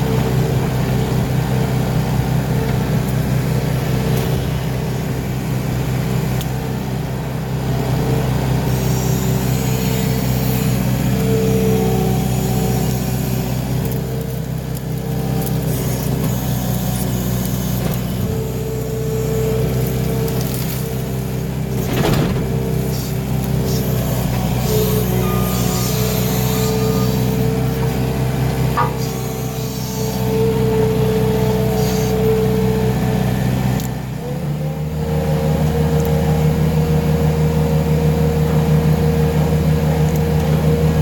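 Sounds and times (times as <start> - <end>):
loader engine running: 0.0 - 41.0.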